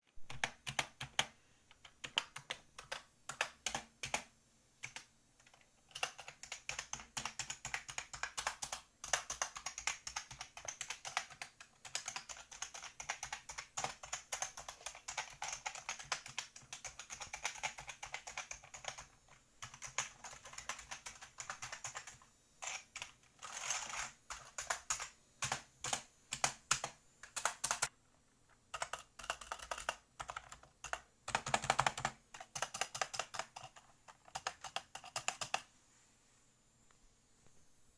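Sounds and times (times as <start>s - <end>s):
typing on computer keyboard: 0.1s - 27.9s, 28.6s - 35.7s.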